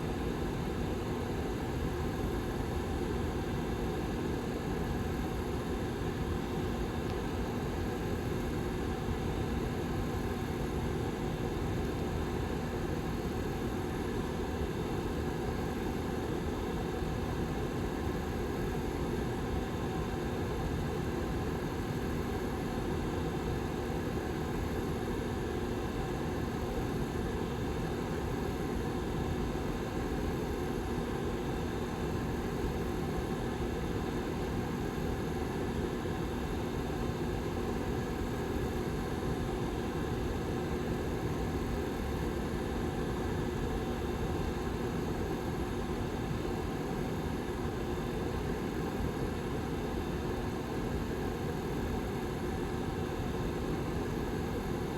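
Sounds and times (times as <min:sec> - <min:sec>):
heater fan blowing air: 0:00.0 - 0:54.9.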